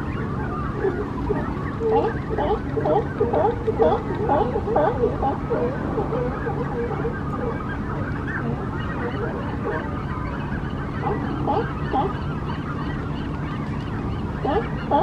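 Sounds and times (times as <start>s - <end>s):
honking animal calls: 0.0s - 15.0s
steady low hum: 0.0s - 15.0s.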